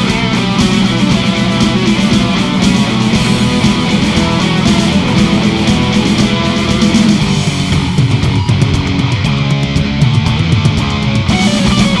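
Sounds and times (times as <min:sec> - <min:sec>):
heavy metal instrumental: 0:00.0 - 0:12.0.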